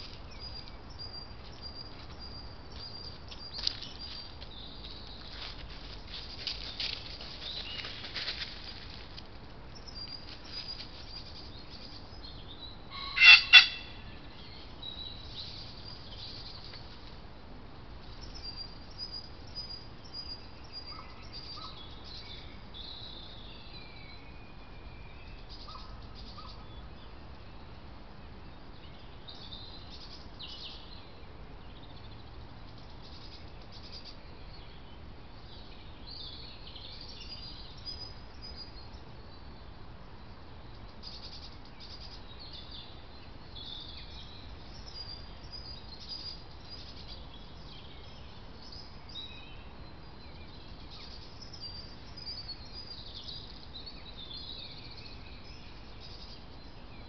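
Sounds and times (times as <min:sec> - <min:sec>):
low background noise: 0:00.0 - 0:57.0
songbirds singing and chirping: 0:00.0 - 0:57.0.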